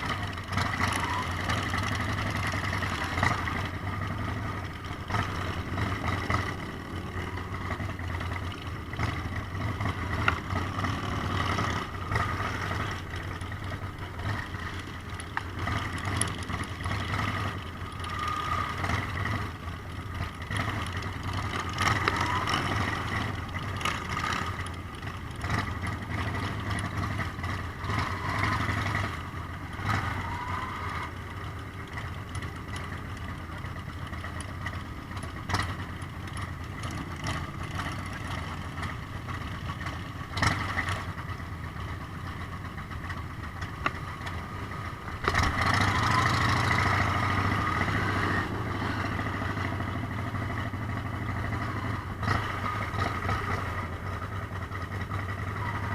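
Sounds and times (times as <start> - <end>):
motorcycle engines running: 0.0 - 55.9.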